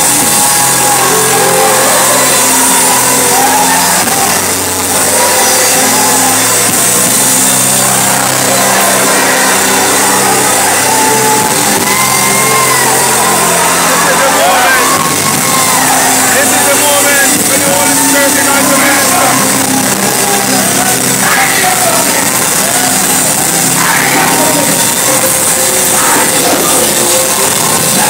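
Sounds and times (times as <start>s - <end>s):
band holding long low notes: 0.0s - 28.0s
choir and congregation singing: 0.0s - 28.0s
people shouting: 0.0s - 28.0s.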